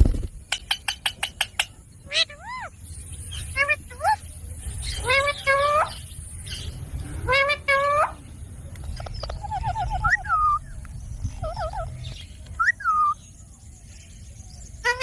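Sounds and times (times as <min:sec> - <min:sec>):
parakeet calls and squawks: 0:00.7 - 0:13.2, 0:14.8 - 0:15.0.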